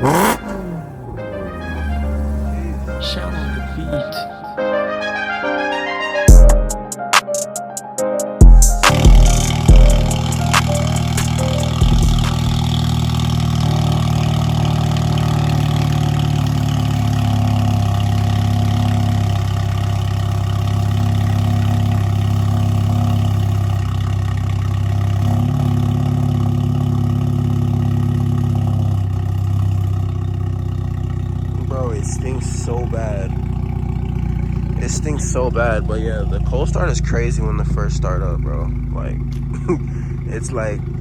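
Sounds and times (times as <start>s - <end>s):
loud exhaust note: 0.0s - 4.1s, 8.5s - 41.0s
car engine idling: 0.0s - 4.2s, 8.4s - 41.0s.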